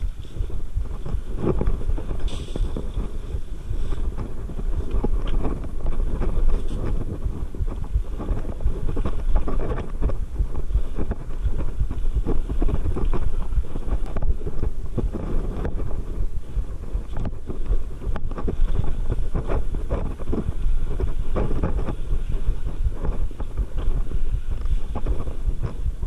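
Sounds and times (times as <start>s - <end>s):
bike rattling: 0.0s - 26.0s
bike tyres rolling over stones: 0.0s - 26.0s
wind on microphone: 0.0s - 26.0s.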